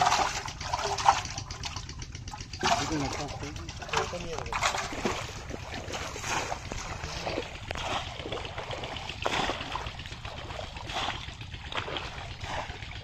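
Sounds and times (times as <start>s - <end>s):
fish trap splashing into water: 0.0s - 13.0s
legs wading through water: 0.0s - 13.0s.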